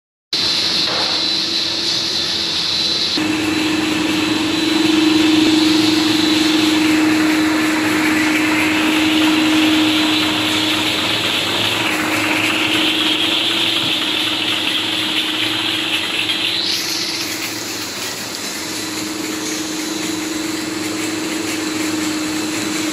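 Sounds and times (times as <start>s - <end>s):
tablet press machine hum: 3.2s - 22.9s.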